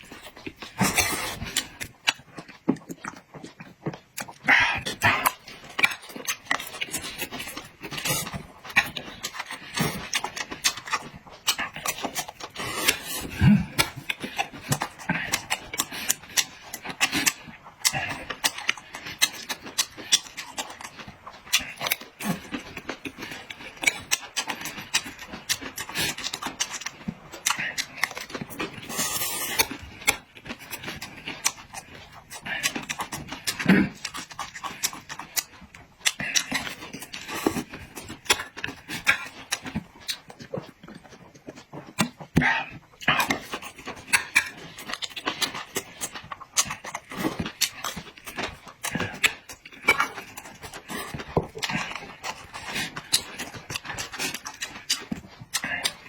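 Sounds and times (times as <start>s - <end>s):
person chewing and lip-smacking: 0.0s - 56.0s.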